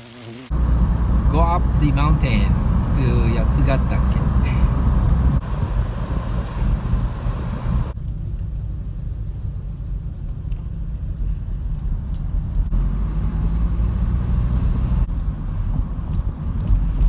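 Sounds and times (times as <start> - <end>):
car engine rumbling: 0.5 - 17.0
road noise: 0.5 - 17.0.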